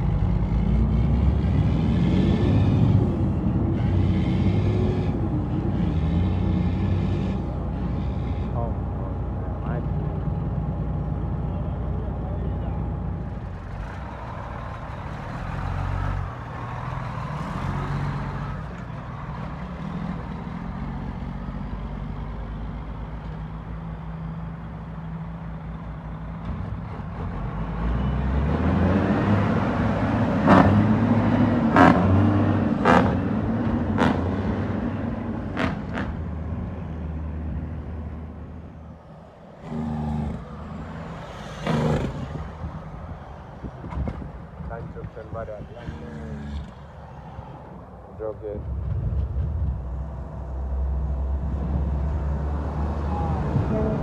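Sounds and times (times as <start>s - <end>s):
diesel truck engine revving: 0.0s - 46.9s.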